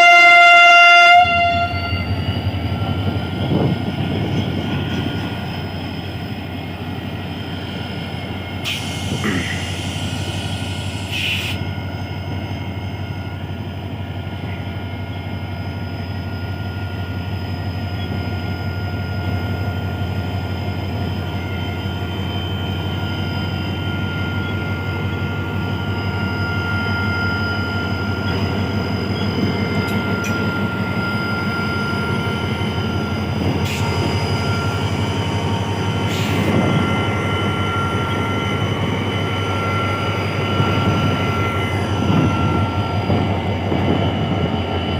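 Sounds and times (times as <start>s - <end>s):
diesel locomotive drone with whine: 0.0s - 44.9s.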